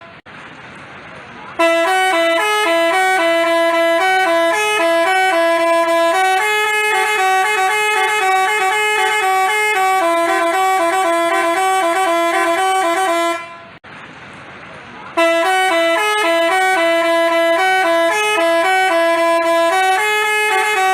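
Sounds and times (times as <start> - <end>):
multi-tone musical bus horn: 0.0 - 0.2, 1.5 - 13.8, 15.1 - 20.9.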